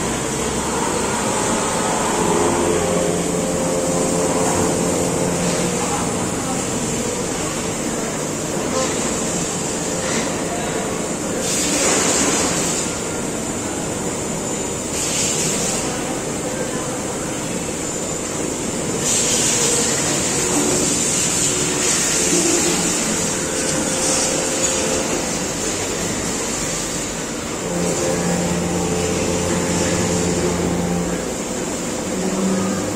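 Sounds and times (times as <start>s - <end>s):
machining center running: 0.0s - 32.9s.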